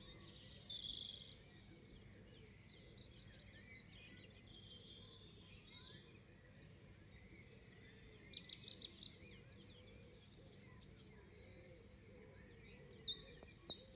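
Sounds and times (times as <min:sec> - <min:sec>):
songbirds singing: 0:00.0 - 0:13.9.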